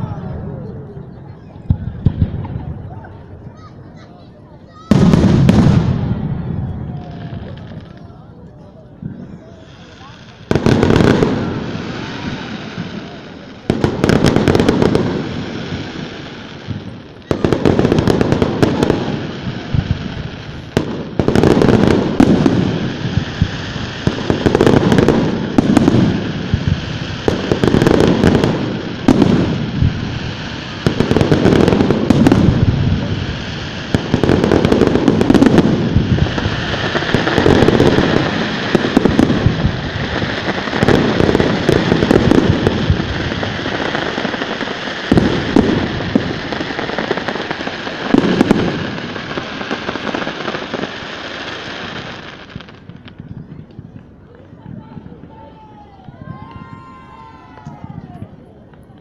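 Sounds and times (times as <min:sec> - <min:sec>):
fireworks bangs with crackles: 0:00.0 - 0:59.0.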